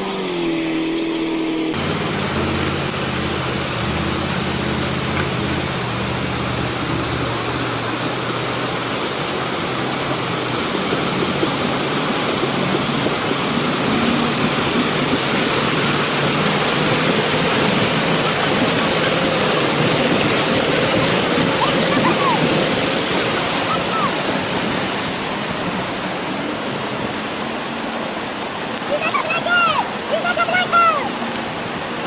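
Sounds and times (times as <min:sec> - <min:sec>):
truck engine running: 0:00.0 - 0:27.1
river water rushing: 0:00.0 - 0:32.0.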